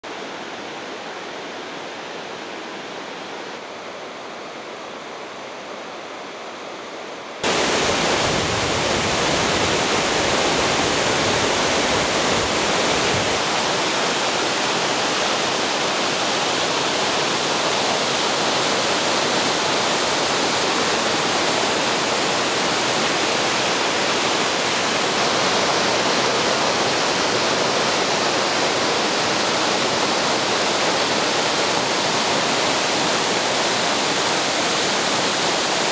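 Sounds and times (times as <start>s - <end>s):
waterfall roaring: 0.0s - 35.9s.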